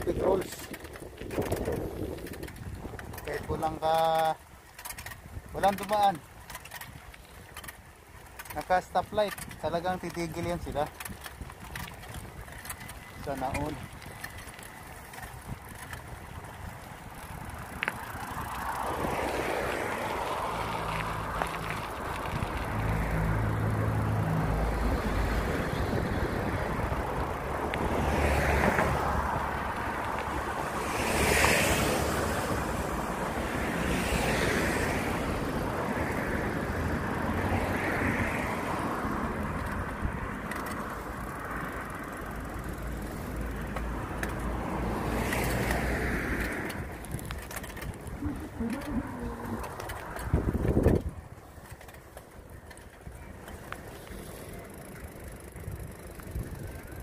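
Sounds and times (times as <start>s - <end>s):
wind rumble: 0.0s - 3.8s, 9.3s - 57.0s
bicycle road noise: 0.0s - 57.0s
traffic passing: 0.0s - 57.0s.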